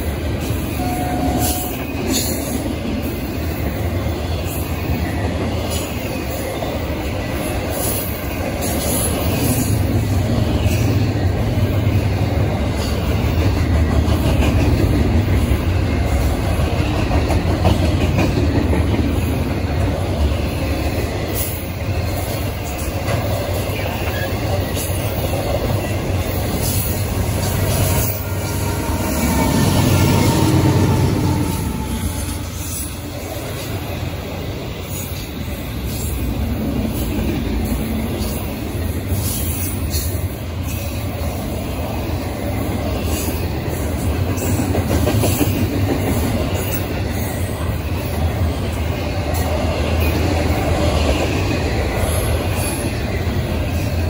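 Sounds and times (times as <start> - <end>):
diesel locomotive engine: 0.0 - 54.0
freight train wheels rumbling: 0.0 - 54.0.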